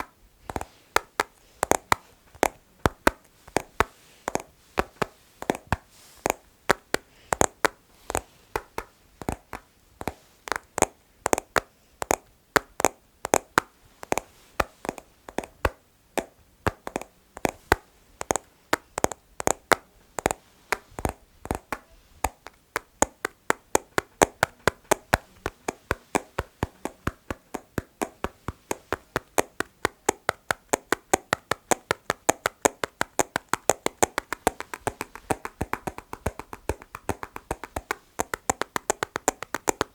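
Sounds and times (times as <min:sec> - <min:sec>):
fingertip tapping on hard objects: 0:00.0 - 0:39.9.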